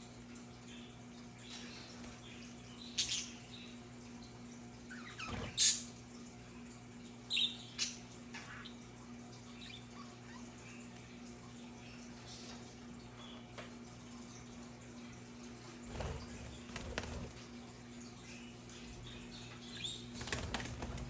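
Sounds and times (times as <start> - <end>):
faint low hum: 0.1 - 21.0.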